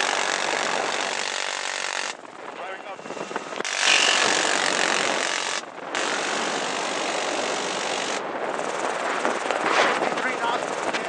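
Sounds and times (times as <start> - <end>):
helicopter noise: 0.0 - 11.0.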